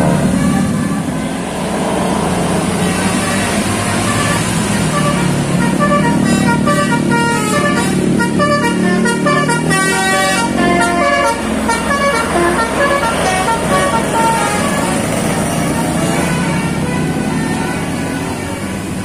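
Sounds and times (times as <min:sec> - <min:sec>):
bus engine rumble: 0:00.0 - 0:19.0
motorcycles: 0:00.0 - 0:19.0
multi-tone bus horn melody: 0:00.0 - 0:19.0.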